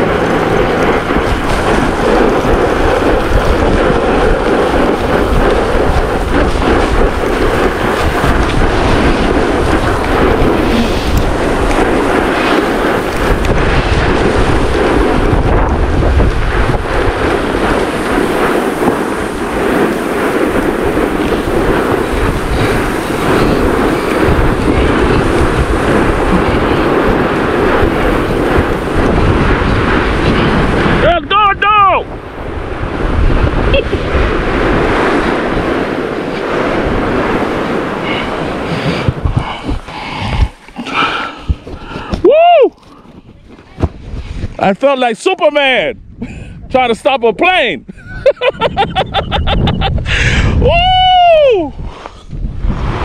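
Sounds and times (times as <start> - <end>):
board sliding down gravel: 0.0 - 31.1, 32.1 - 44.9
wind buffeting microphone: 0.0 - 53.0.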